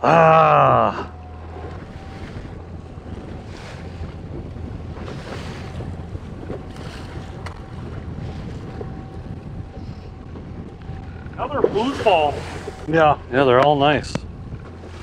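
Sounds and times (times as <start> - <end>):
water slapping against boat: 0.6 - 15.0
wind buffeting microphone: 0.9 - 15.0.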